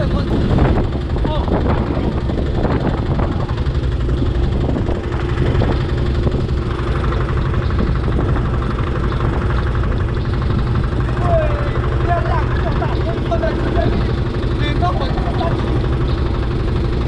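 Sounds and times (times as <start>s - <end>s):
boat engine droning: 0.0s - 17.0s
fine rattle: 0.0s - 17.0s.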